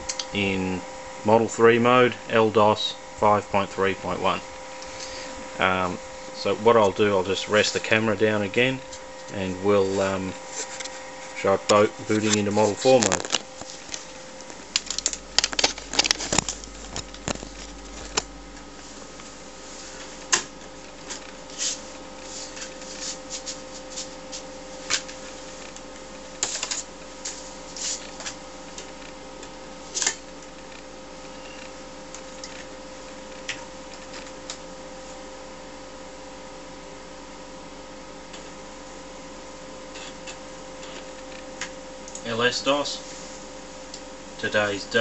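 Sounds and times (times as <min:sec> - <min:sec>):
computer hum: 0:00.0 - 0:45.0.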